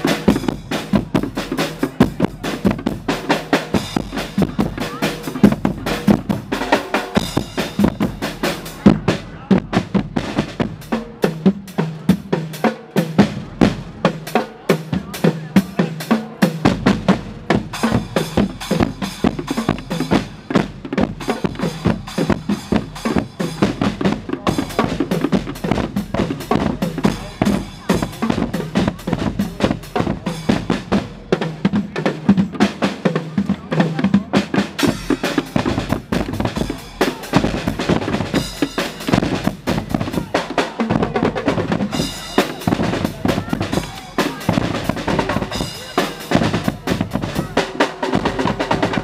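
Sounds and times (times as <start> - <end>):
bass drums snare and cymbals: 0.0 - 49.0
brass band playing: 0.0 - 49.0.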